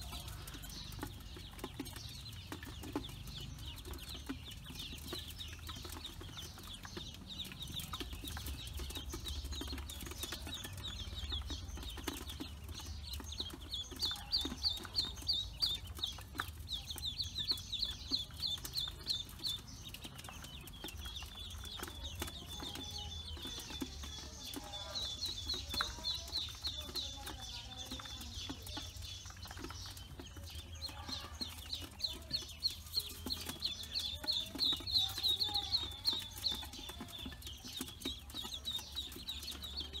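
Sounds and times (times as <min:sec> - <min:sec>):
ducklings peeping: 0:00.0 - 0:40.0.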